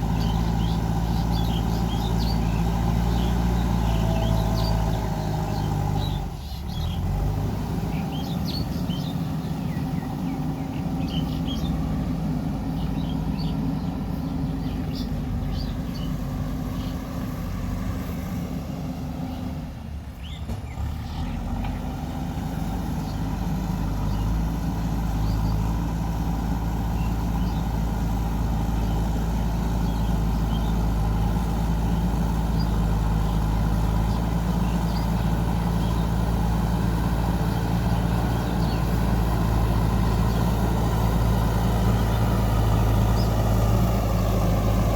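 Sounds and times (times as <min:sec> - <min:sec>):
diesel engine running under work: 0:00.0 - 0:44.9.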